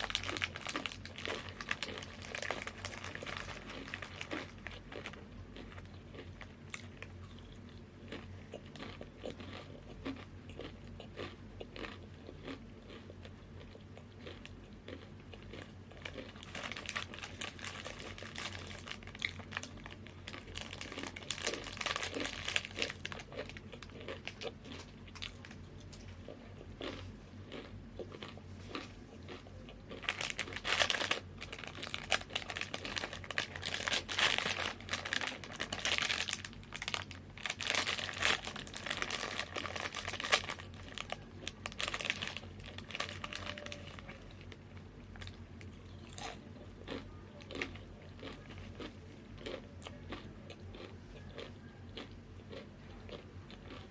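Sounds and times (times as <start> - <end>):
crunchy chips being chewed: 0.0 - 53.9
snack bag crinkling: 0.0 - 53.9.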